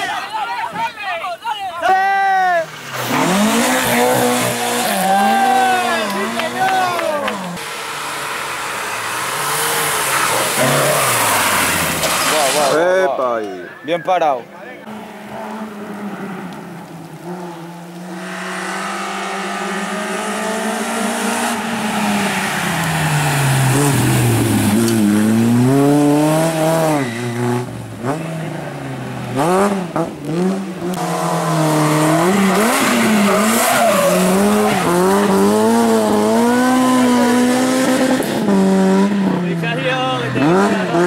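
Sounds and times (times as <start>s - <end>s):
rally car engine revving: 2.6s - 12.8s, 14.8s - 41.0s.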